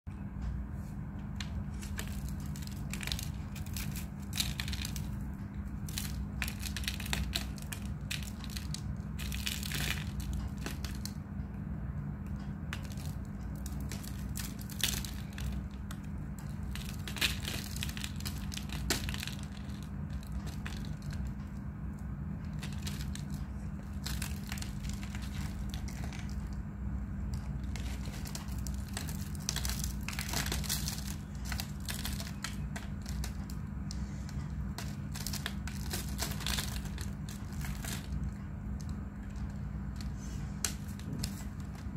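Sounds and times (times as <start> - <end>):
steady low hum: 0.1 - 41.9.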